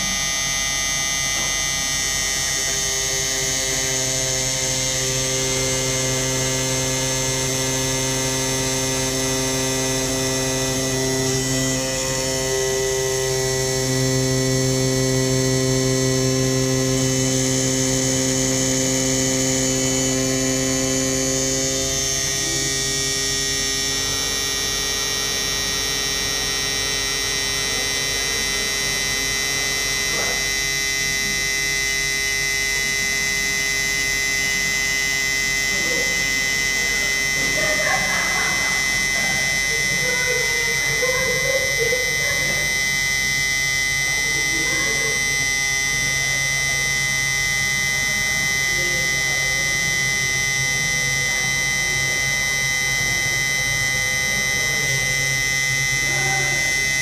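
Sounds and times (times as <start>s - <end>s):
milling spindle hum and whine: 0.0s - 57.0s.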